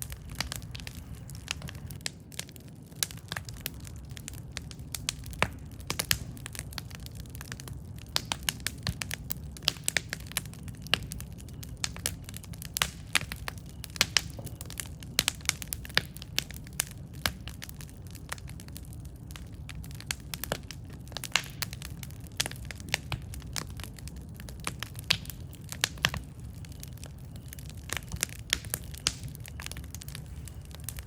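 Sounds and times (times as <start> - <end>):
burning wood crackles and pops: 0.0 - 31.0
low rumble of flames: 0.0 - 31.0.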